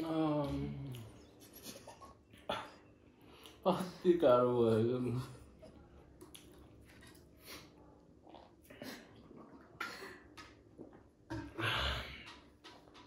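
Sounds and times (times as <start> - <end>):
people chewing food: 0.0 - 3.8, 5.2 - 13.0.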